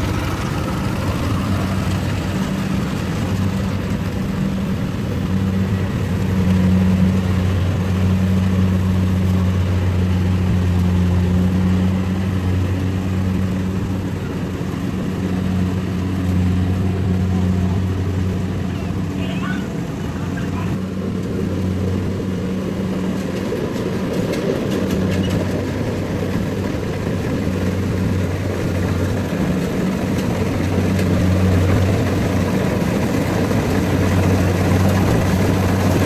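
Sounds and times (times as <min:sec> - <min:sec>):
harvester engine droning: 0:00.0 - 0:36.0.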